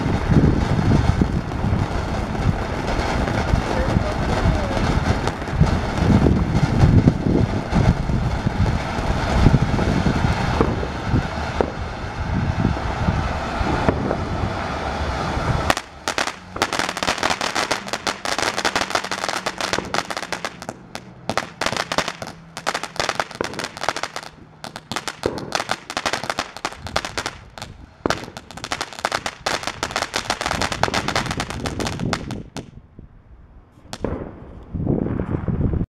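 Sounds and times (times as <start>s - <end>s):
firework fountain hissing and crackling: 0.0s - 32.7s.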